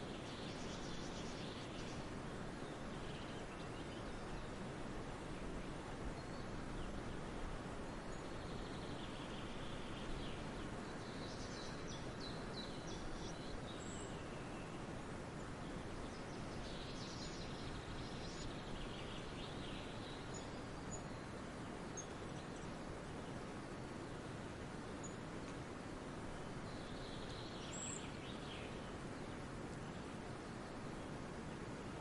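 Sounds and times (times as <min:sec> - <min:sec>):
small birds chirping: 0:00.0 - 0:32.0
steady background hiss: 0:00.0 - 0:32.0.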